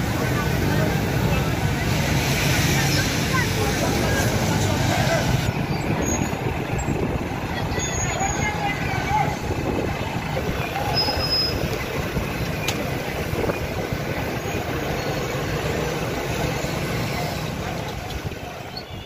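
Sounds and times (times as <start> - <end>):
heavy trucks running: 0.0 - 19.0
motorcycle engines: 0.0 - 19.0.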